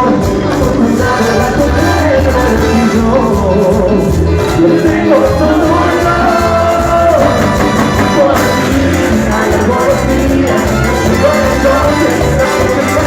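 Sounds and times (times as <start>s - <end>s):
latin dance band music: 0.0s - 13.0s.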